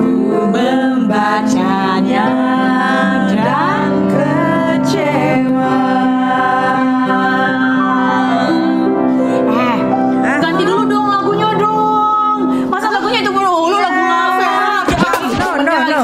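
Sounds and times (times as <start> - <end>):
women singing together: 0.0 - 9.0, 10.4 - 16.0
upright piano accompaniment: 0.0 - 16.0.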